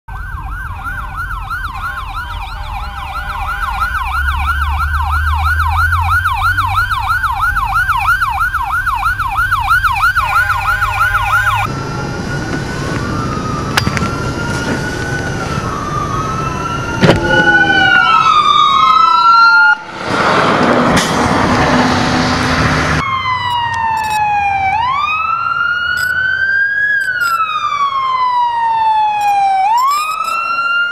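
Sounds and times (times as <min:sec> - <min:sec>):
engine rumble: 0:00.1 - 0:28.5
ambulance sirens wailing: 0:00.1 - 0:30.9
fire truck yelping siren: 0:00.1 - 0:30.9
police siren wailing: 0:00.1 - 0:30.9.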